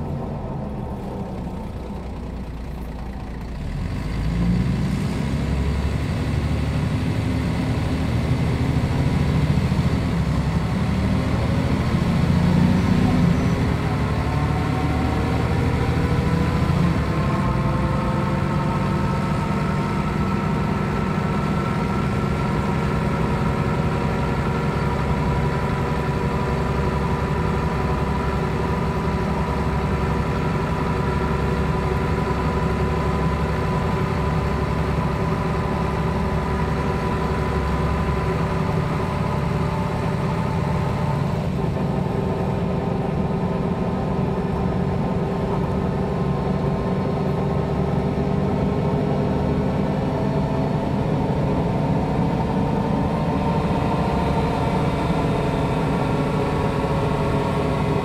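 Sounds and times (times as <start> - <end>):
diesel bus engine idling: 0.0 - 58.0.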